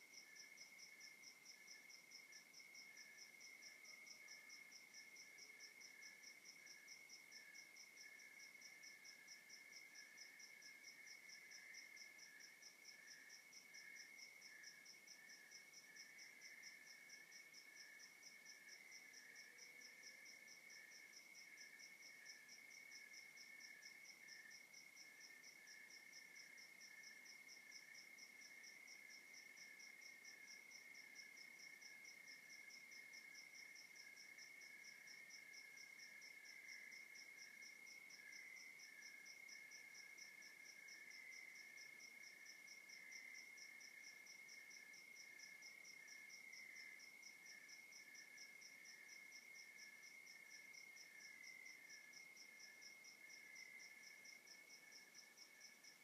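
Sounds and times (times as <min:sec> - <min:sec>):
continuous high insect trill: 0:00.0 - 0:56.0
cricket chirping in bursts: 0:00.0 - 0:56.0
high pulsing insect call: 0:00.0 - 0:56.0.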